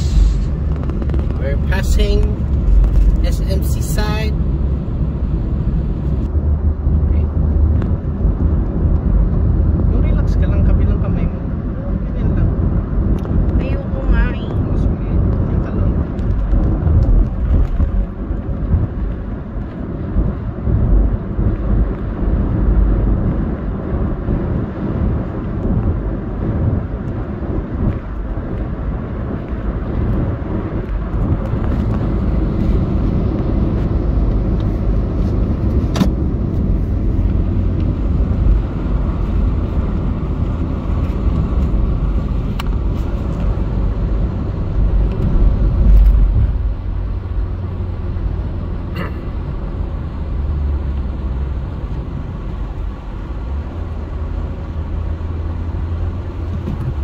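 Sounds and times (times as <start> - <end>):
car driving interior rumble: 0.0 - 57.0.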